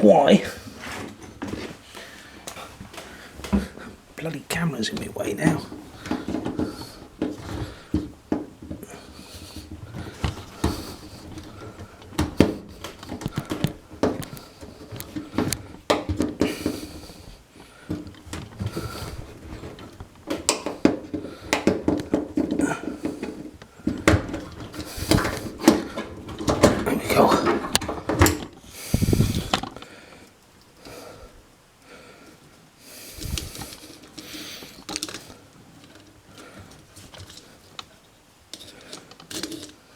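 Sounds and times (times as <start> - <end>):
hands handling parts: 0.6 - 30.9, 33.1 - 39.9.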